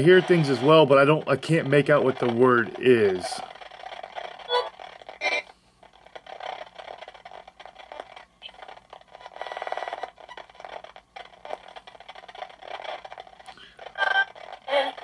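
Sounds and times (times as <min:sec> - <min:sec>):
fast crackle: 0:00.0 - 0:15.0.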